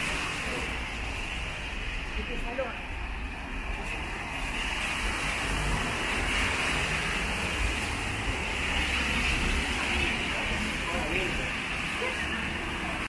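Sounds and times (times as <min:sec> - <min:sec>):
car tyres on wet road: 0:00.0 - 0:13.0
low traffic rumble: 0:00.0 - 0:13.0
rain hissing: 0:00.0 - 0:13.0.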